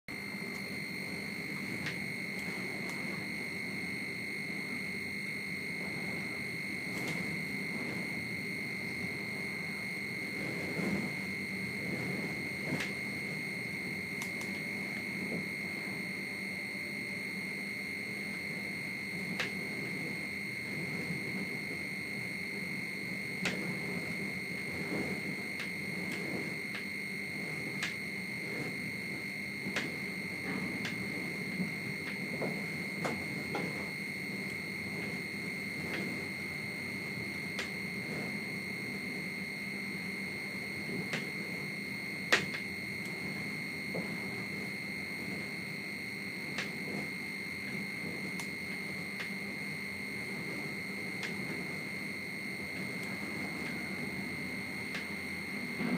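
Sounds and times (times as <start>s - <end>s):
high-pitched alarm buzzer: 0.1s - 55.9s.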